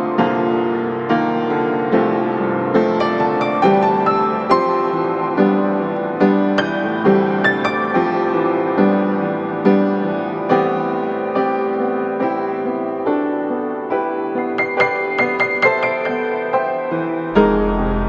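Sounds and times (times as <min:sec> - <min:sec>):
soft slow piano music: 0:00.0 - 0:18.0.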